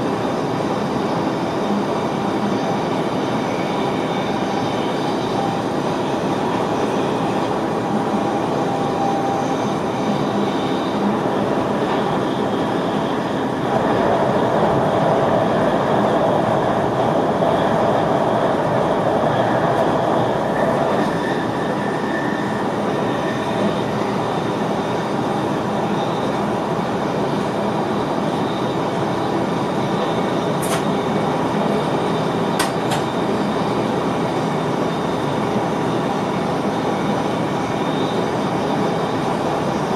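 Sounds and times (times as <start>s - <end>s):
electric train running: 0.0s - 39.9s.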